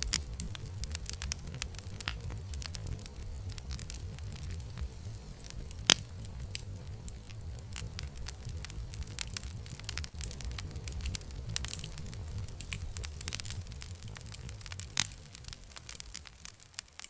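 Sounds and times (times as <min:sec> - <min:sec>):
low rumble: 0:00.0 - 0:16.8
campfire crackling: 0:00.0 - 0:17.0.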